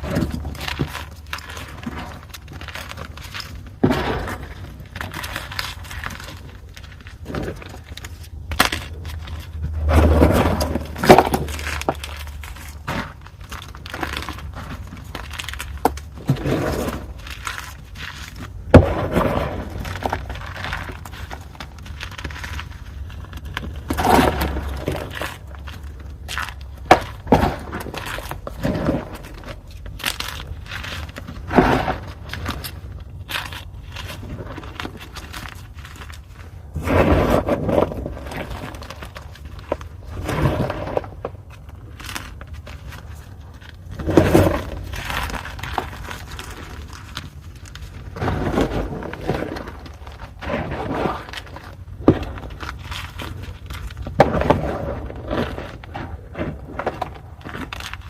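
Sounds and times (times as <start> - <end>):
chalk crunching and crumbling: 0.0 - 58.0.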